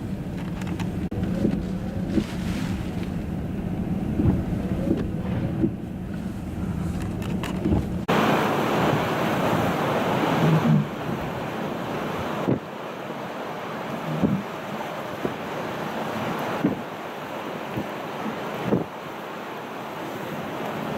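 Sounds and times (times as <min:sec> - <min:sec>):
vehicle engine rumble: 0:00.0 - 0:20.9
wind rushing on microphone: 0:00.0 - 0:20.9.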